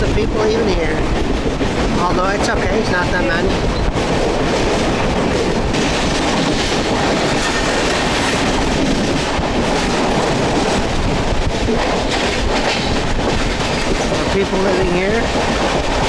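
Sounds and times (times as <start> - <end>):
train wheels rumbling and rattling: 0.0 - 16.0.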